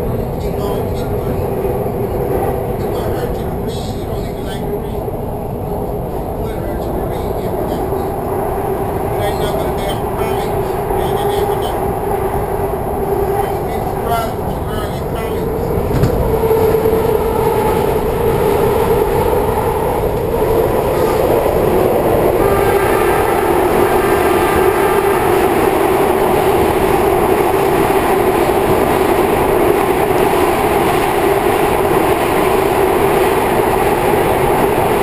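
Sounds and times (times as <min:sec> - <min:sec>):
metro train wheel and track rumble: 0:00.0 - 0:35.0.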